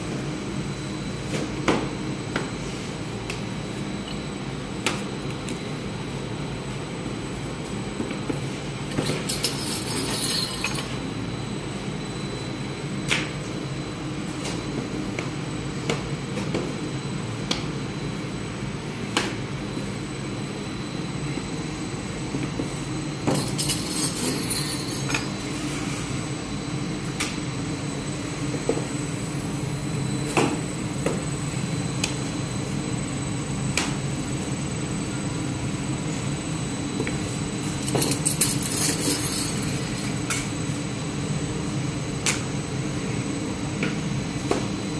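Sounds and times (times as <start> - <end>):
oven machine hum: 0.0 - 44.9.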